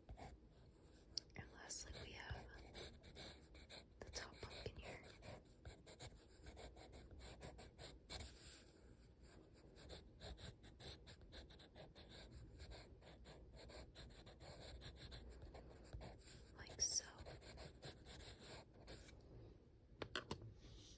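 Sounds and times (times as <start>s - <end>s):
pencil scratching on paper: 0.0s - 19.2s.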